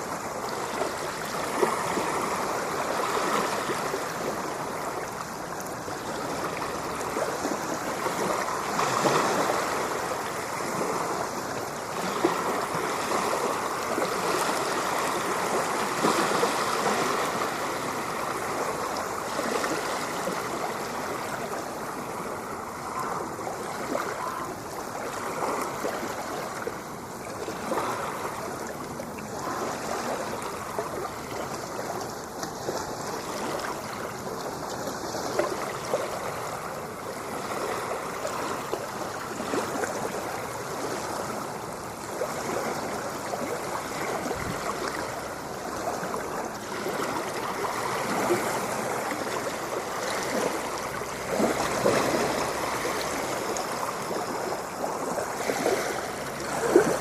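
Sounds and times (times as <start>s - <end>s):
ocean water splashing: 0.0s - 57.0s.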